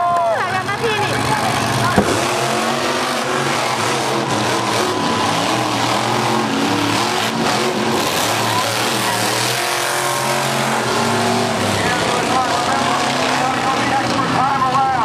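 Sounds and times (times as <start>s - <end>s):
truck engine revving: 0.5s - 14.8s.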